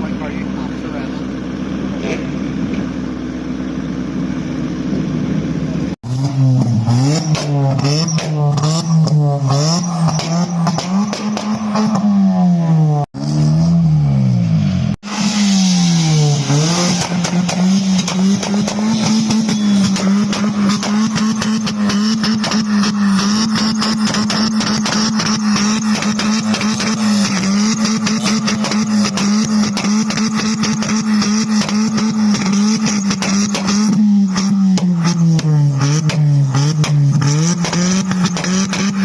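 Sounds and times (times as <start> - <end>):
car engine idling: 0.0 - 13.0, 14.1 - 39.0
car engine revving: 0.0 - 39.0.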